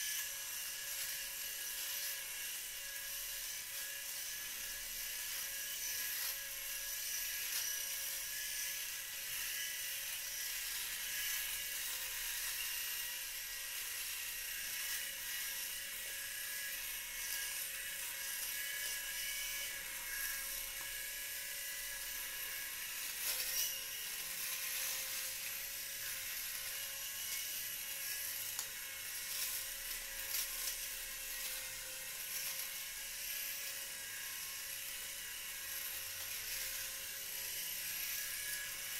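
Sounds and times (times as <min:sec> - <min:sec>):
electric shaver motor whine: 0:00.0 - 0:38.9
shaver crackles: 0:00.0 - 0:38.9.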